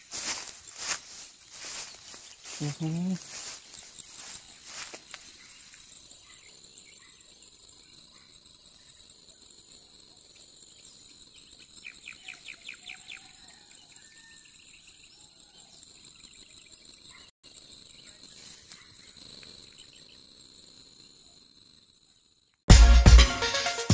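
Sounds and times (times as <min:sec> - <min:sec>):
insect chorus shrilling: 0:00.0 - 0:22.6
short insect chirps: 0:00.0 - 0:22.6.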